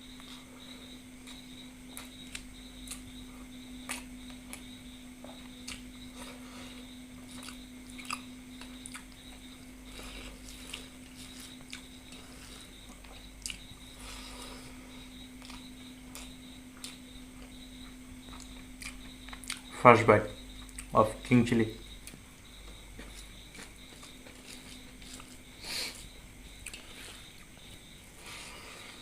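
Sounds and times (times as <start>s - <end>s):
steady low hum: 0.0s - 29.0s
person chewing food: 0.1s - 19.8s, 20.5s - 21.0s, 21.8s - 29.0s.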